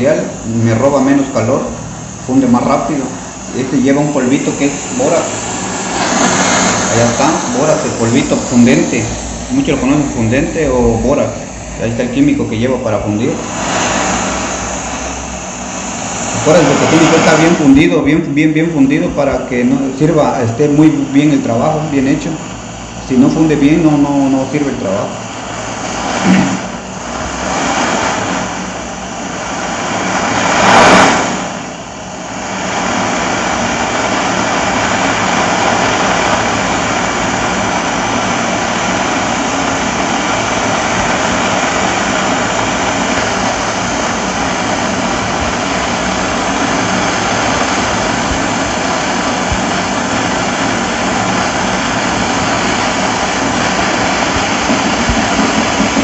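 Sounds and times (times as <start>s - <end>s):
torch flame blowing: 0.0s - 56.0s.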